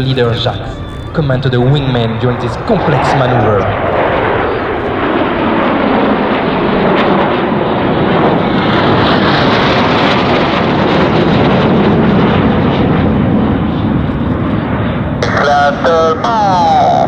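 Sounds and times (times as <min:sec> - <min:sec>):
jets flying past: 0:00.0 - 0:16.2.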